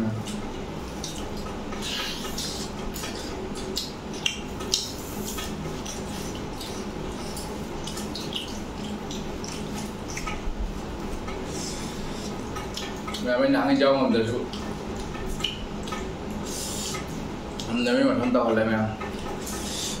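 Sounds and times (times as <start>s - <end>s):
steady low hum: 0.0s - 20.0s
chewing and mouth clicks: 0.2s - 13.4s, 14.2s - 17.8s.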